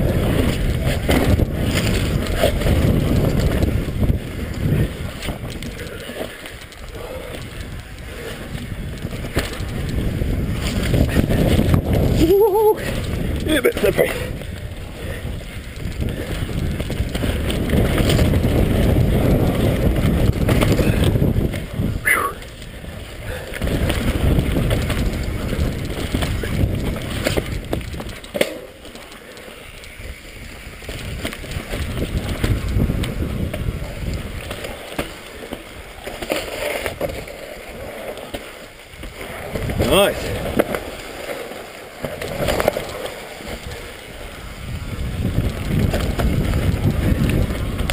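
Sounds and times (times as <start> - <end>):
wind buffeting microphone: 0.0 - 29.0, 29.6 - 47.9
bike rattling: 0.0 - 47.9
bike tyres rumbling over dirt: 0.0 - 47.9.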